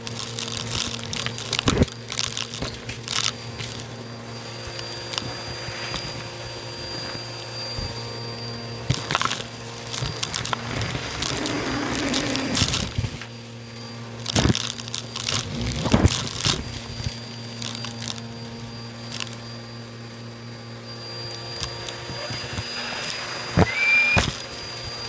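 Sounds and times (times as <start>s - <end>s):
debris crunching in vacuum: 0.0s - 20.5s, 21.1s - 25.0s
vacuum cleaner running: 0.0s - 25.0s.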